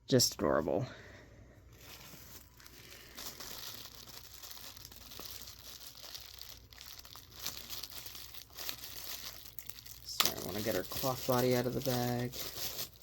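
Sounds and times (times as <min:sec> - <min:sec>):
packaging crinkling and rustling: 0:01.7 - 0:13.0.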